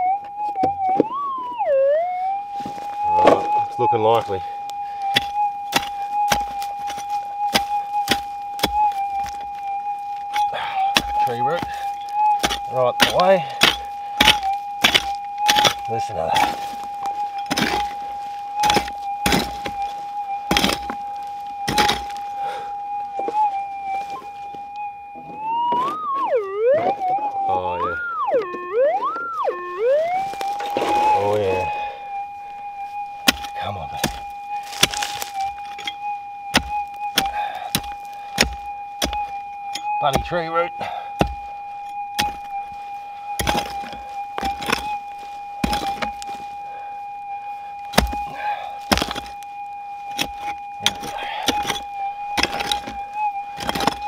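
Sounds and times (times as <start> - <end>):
metal detector electronic tone: 0.0 - 54.0
pick striking root and gravel: 2.5 - 22.6, 29.6 - 46.5, 47.8 - 54.0.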